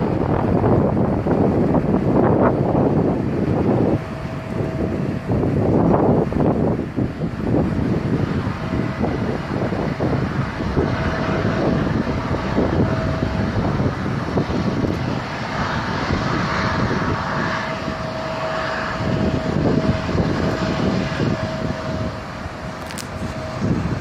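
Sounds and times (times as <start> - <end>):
jet engines whining: 0.0 - 24.0
wind buffeting the microphone: 0.0 - 24.0.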